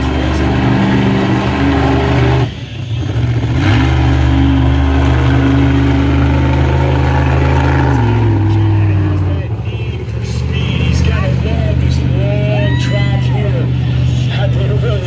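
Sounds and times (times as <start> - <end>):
truck engine revving high: 0.0 - 15.0.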